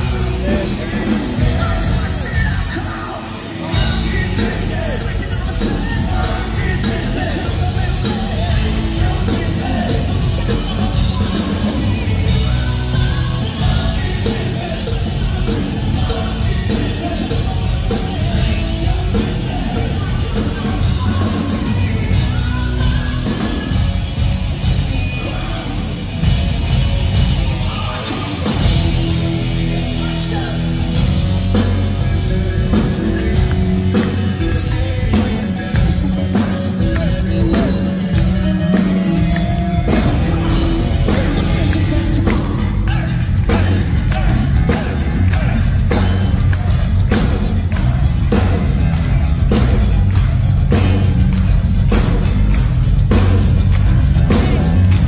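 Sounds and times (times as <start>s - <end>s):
bass guitar: 0.0s - 55.0s
drums: 0.0s - 55.0s
electric guitars: 0.0s - 55.0s
lead singer: 0.0s - 55.0s.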